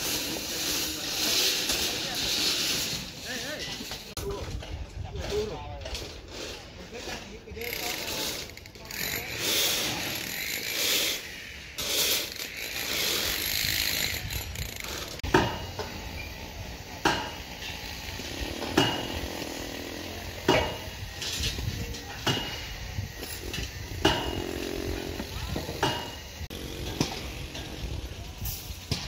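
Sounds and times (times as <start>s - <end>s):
steady background noise: 0.0s - 29.0s.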